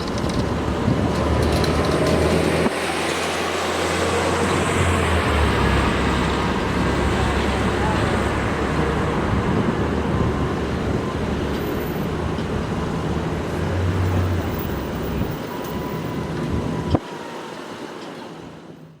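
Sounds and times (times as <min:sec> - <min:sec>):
road traffic rumbling: 0:00.0 - 0:19.0.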